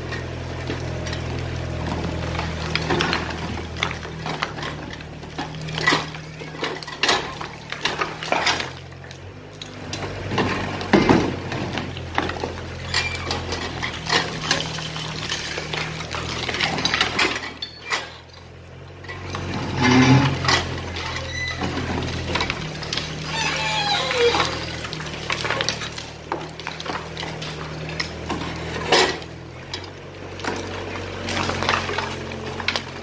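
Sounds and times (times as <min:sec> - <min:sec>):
concrete and brick rubble crashing: 0:00.0 - 0:33.0
excavator diesel engine running: 0:00.0 - 0:33.0.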